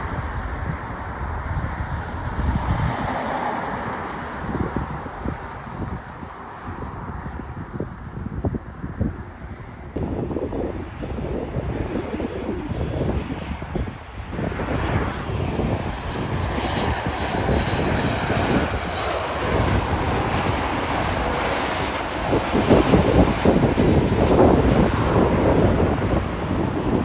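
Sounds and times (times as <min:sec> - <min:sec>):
airliner engines roaring: 0:00.0 - 0:27.0
wind buffeting microphone: 0:00.0 - 0:27.0.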